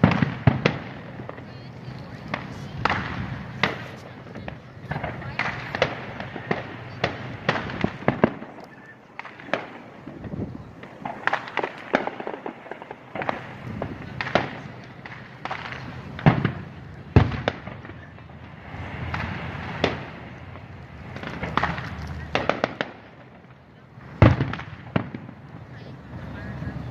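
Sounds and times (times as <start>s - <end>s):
fireworks bangs and pops: 0.0s - 26.9s.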